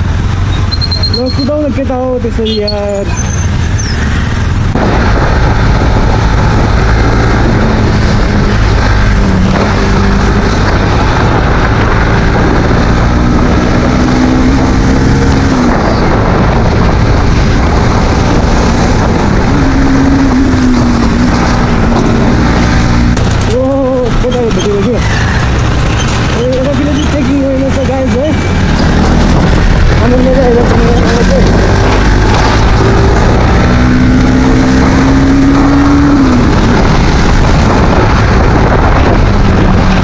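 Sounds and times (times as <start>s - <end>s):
motorcycle engine: 0.0s - 40.0s
wind rushing over microphone: 0.0s - 40.0s.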